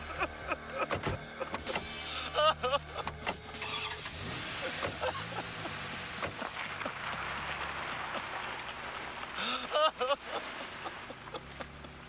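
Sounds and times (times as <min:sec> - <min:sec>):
car engine running: 0:00.0 - 0:09.4, 0:10.2 - 0:12.0.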